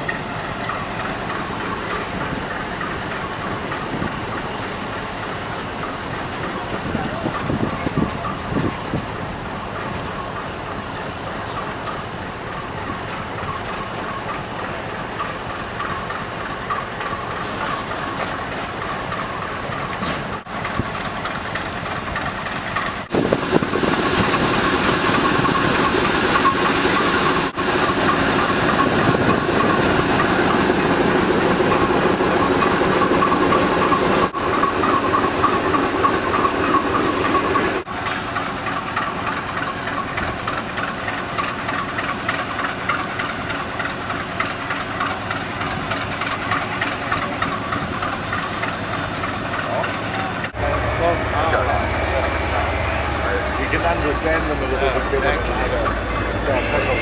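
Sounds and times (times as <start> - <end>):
steam locomotive venting steam: 0.0 - 57.0.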